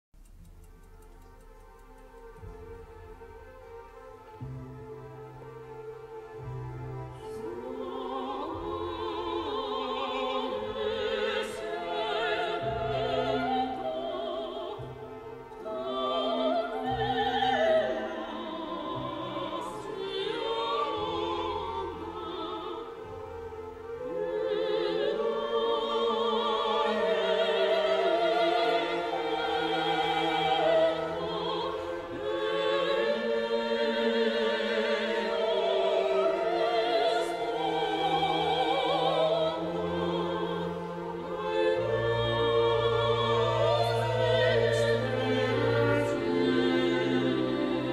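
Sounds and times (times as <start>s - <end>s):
operatic singing: 0.2s - 47.9s
orchestral strings: 0.2s - 47.9s.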